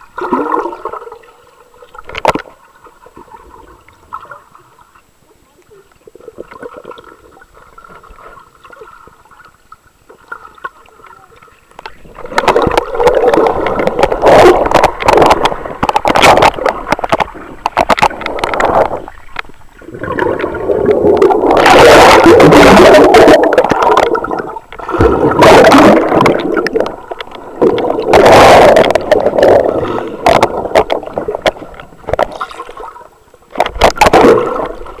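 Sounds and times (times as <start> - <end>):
water sloshing and gurgling: 0.0 - 35.0.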